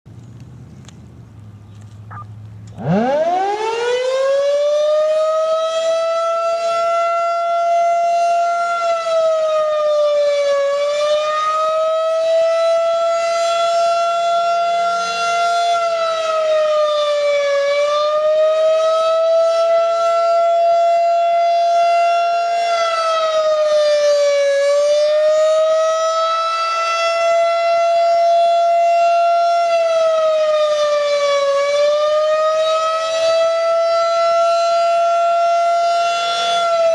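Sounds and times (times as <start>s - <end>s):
outdoor warning siren: 2.1s - 36.9s.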